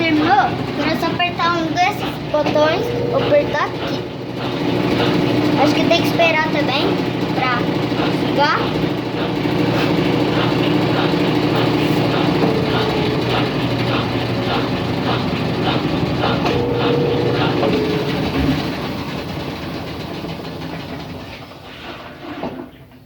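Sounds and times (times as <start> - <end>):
rhythmic ticking: 0.0 - 21.3
washing machine drum spinning: 0.0 - 23.0.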